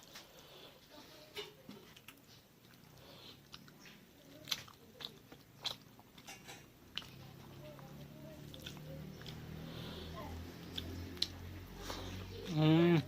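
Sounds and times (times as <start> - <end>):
chewing and biting food: 1.8 - 12.9.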